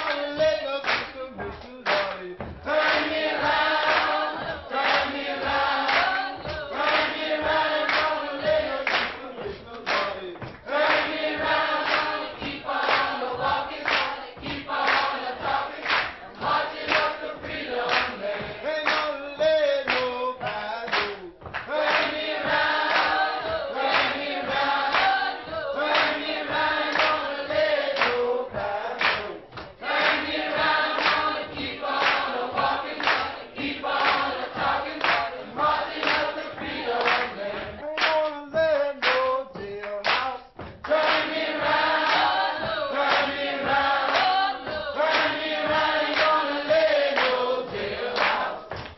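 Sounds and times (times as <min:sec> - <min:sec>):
choir singing with a beat: 0:00.0 - 0:48.9.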